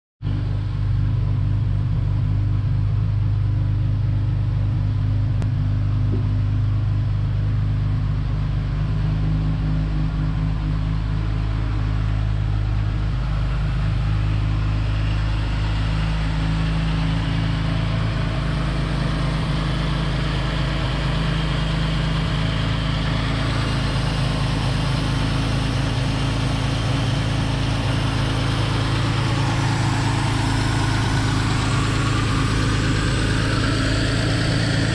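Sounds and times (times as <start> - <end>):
car engine fast idle: 0.3 - 34.9.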